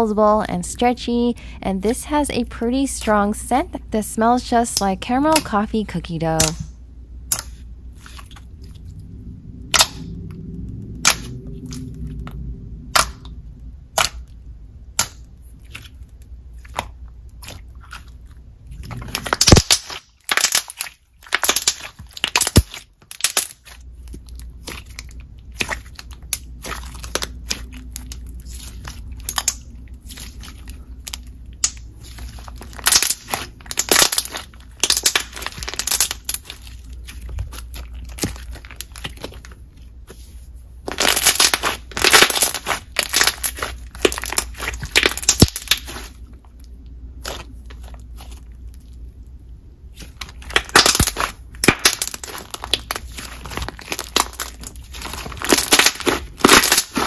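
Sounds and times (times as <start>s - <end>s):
slime squishing by hand: 6.4s - 9.0s, 9.6s - 57.0s.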